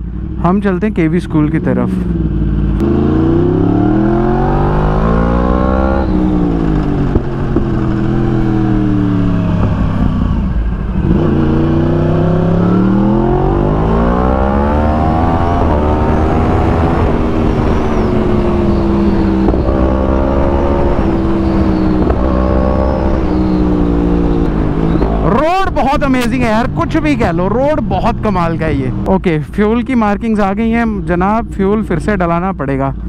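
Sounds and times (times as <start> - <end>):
motorcycle engine accelerating: 0.0 - 29.8.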